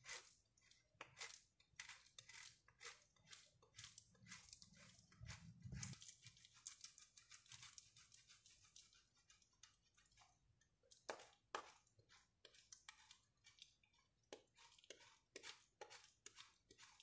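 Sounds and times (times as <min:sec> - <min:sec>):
soap scraped on metal grater: 0:00.0 - 0:10.4, 0:11.0 - 0:17.0.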